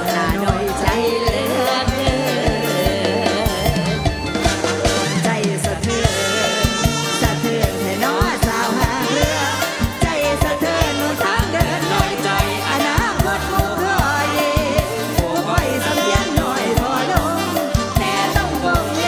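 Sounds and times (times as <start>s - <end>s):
bass: 0.0s - 19.0s
fast drum beat: 0.0s - 19.0s
person singing: 0.0s - 19.0s.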